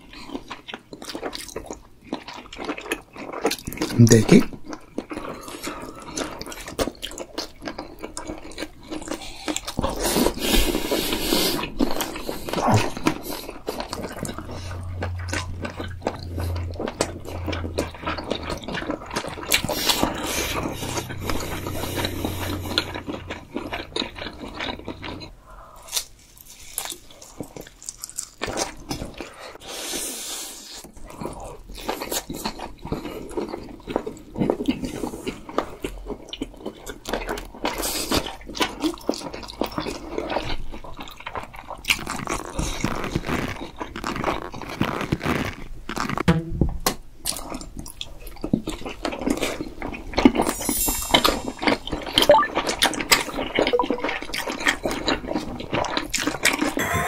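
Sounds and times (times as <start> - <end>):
people chewing food: 0.0 - 46.3, 47.1 - 57.0.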